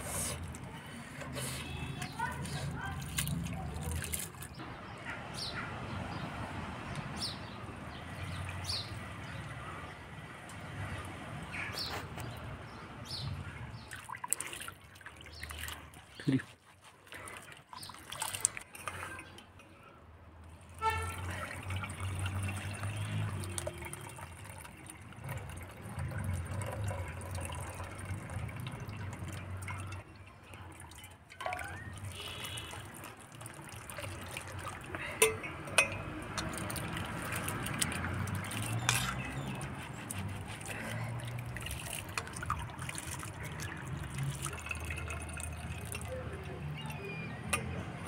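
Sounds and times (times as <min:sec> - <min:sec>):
water sloshing and dripping: 0:00.0 - 0:48.0.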